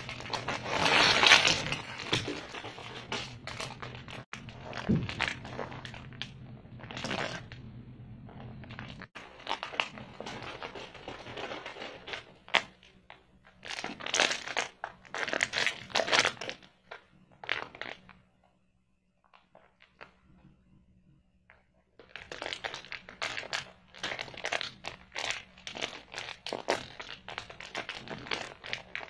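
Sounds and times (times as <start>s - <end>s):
plastic wrappers crinkling: 0.0s - 7.7s, 8.4s - 18.2s, 22.0s - 29.0s.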